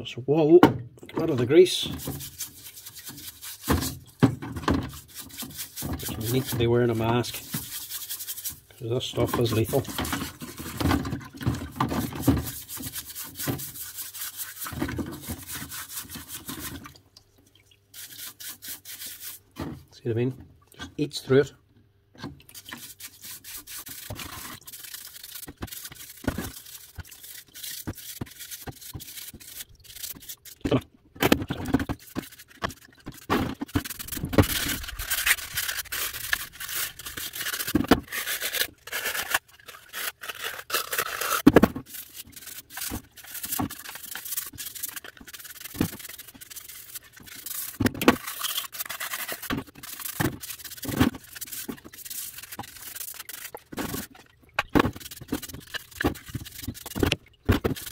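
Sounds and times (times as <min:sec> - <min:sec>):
brush scrubbing metal parts: 0:01.2 - 0:16.9, 0:17.9 - 0:20.3, 0:22.5 - 0:30.8, 0:31.4 - 0:57.9.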